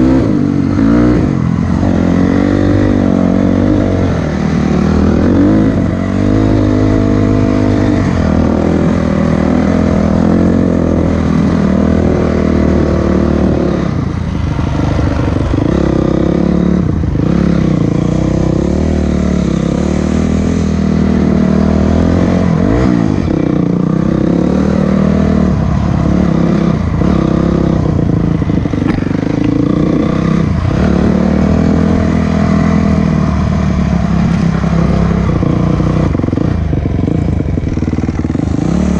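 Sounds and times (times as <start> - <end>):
vehicle engine revving while driving: 0.0 - 38.9.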